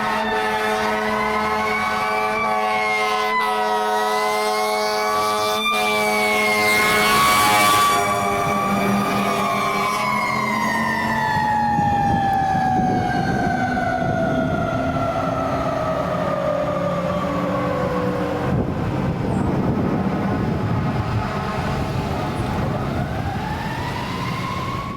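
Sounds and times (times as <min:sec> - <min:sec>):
fire engine siren winding down: 0:00.0 - 0:24.9
truck engine rumble: 0:00.0 - 0:24.9.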